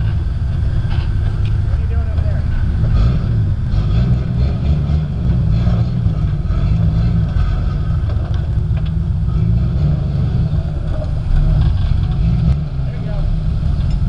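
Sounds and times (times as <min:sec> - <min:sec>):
buggy engine running under load: 0:00.0 - 0:14.0.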